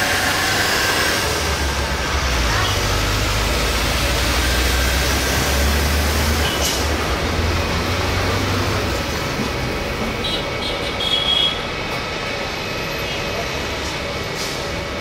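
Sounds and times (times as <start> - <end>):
jet engines at low power: 0.0 - 15.0.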